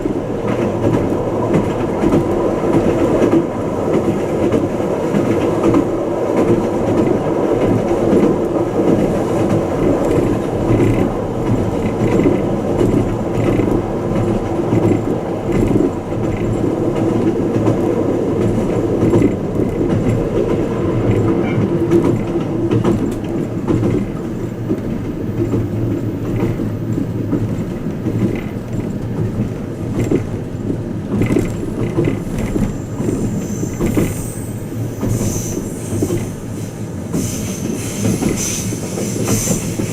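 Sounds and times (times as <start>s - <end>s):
wheels rumbling on rail: 0.0s - 39.9s.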